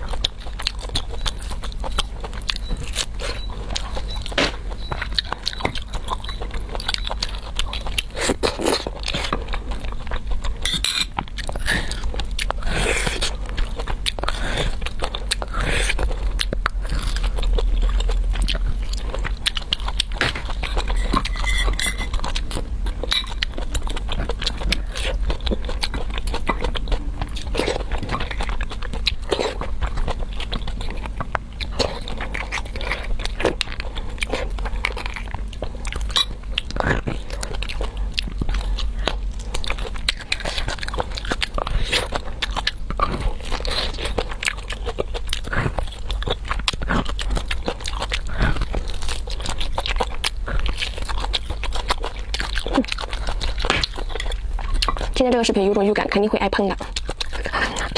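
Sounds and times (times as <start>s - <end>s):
close chewing and biting: 0.0s - 57.9s
steady low hum: 0.0s - 57.9s.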